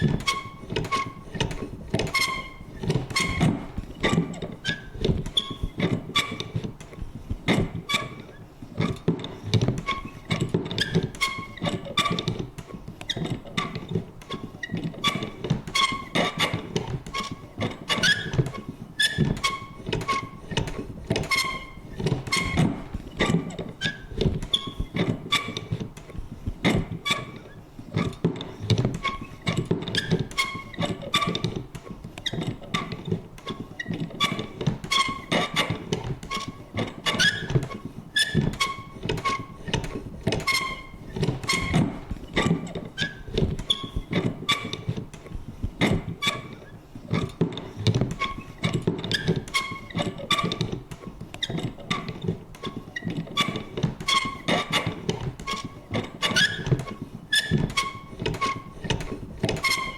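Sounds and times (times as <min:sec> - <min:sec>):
paper punch creaking and clunking: 0:00.0 - 0:59.9.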